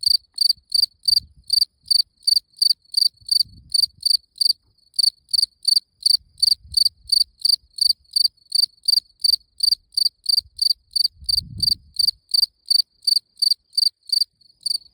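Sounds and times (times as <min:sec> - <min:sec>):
cricket chirping: 0:00.0 - 0:14.9.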